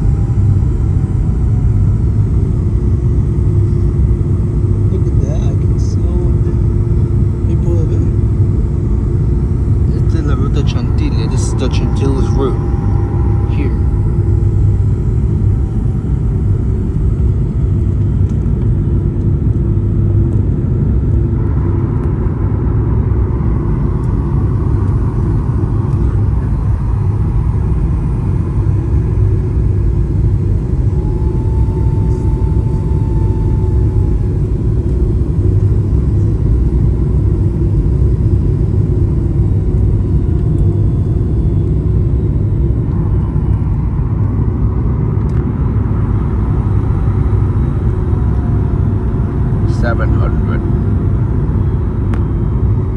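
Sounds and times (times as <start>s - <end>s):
aircraft cabin rumble: 0.0s - 52.9s
steady hum: 0.0s - 52.9s.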